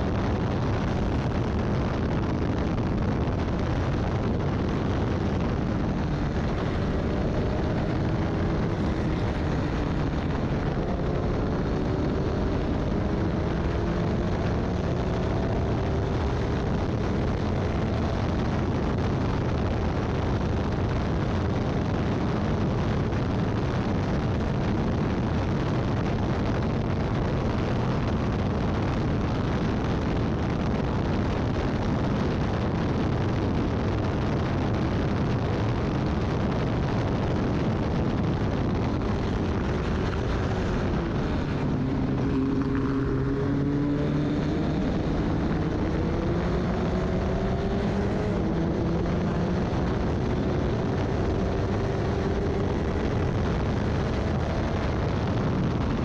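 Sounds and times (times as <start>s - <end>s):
race car engine: 0.0s - 56.0s
wind and road noise: 0.0s - 56.0s.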